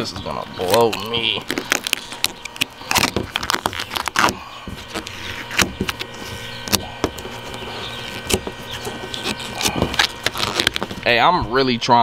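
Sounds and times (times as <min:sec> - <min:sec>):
vinyl film peeling and crackling: 0:00.6 - 0:11.2.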